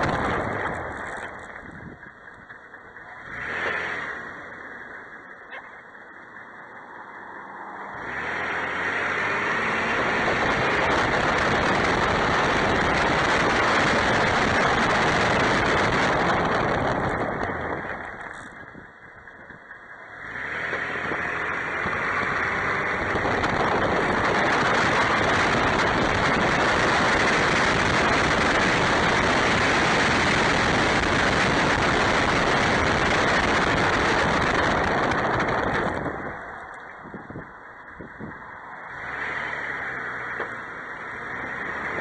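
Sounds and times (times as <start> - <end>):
vehicle road and engine noise: 0.0 - 42.0.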